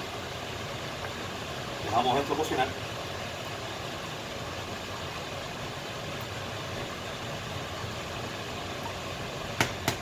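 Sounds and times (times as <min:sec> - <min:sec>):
pan cooking with steady hiss: 0:00.0 - 0:10.0.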